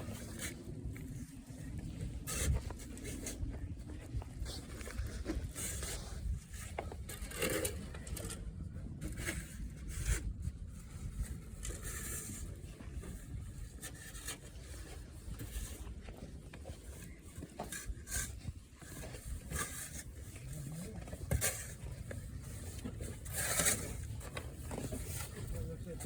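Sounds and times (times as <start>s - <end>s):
scrapes and crunches in snow: 0.0s - 7.9s, 9.2s - 26.0s
wind rumbling on microphone: 0.0s - 26.0s.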